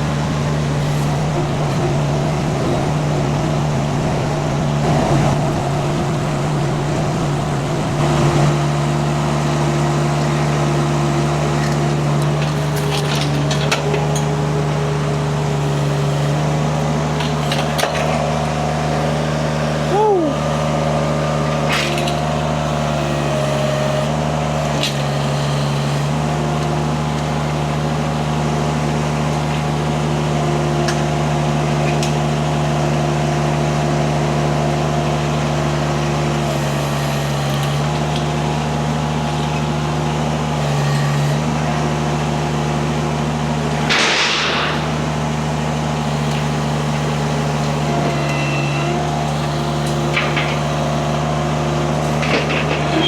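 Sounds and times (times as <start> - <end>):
skid steer engine running: 0.0 - 53.0.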